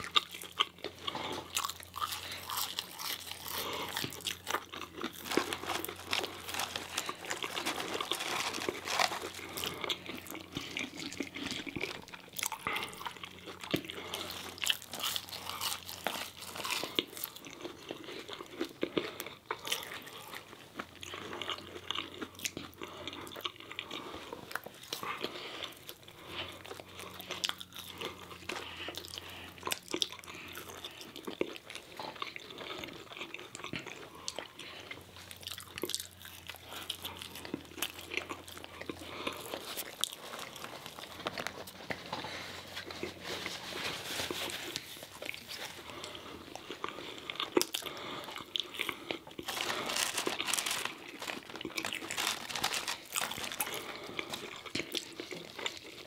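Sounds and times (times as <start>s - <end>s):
people chewing crunchy food: 0.0s - 56.0s.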